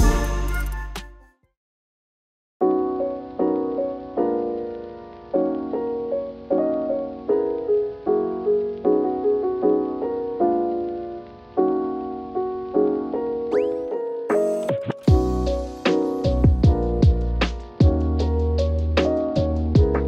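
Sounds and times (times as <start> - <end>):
slow keyboard chords: 2.6 - 20.0.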